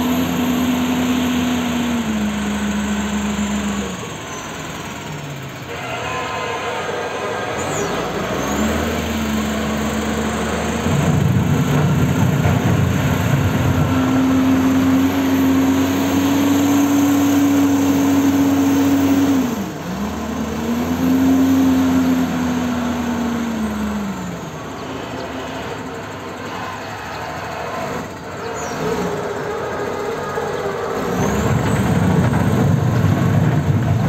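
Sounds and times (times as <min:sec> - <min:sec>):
wheel loader diesel engine under load: 0:00.0 - 0:34.0.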